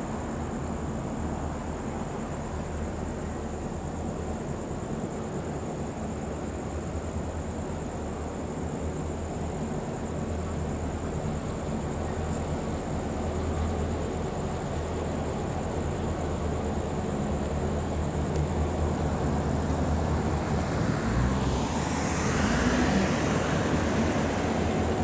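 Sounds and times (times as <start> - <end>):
diesel locomotive engines rumbling: 0.0 - 25.0.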